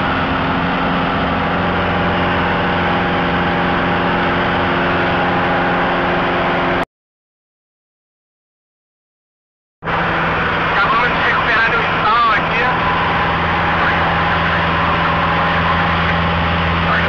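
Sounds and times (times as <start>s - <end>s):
airplane engine droning in cabin: 0.0s - 6.8s, 9.8s - 17.0s.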